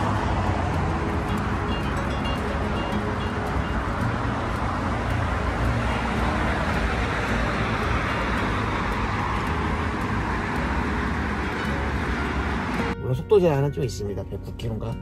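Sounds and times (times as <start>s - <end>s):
vehicle passing by: 0.0s - 13.0s
rumble of passing vehicles: 0.0s - 15.0s.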